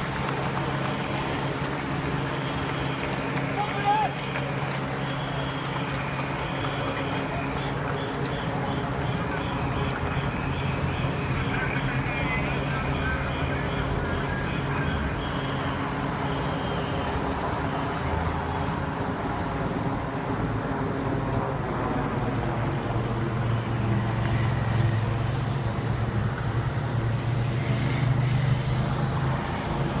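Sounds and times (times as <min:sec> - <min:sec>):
helicopter flying overhead: 0:00.0 - 0:30.0.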